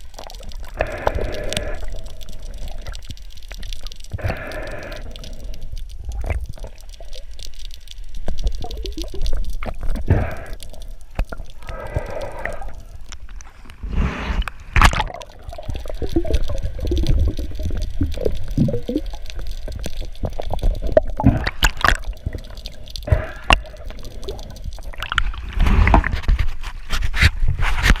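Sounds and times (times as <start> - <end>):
water sloshing and gurgling: 0.0 - 28.0.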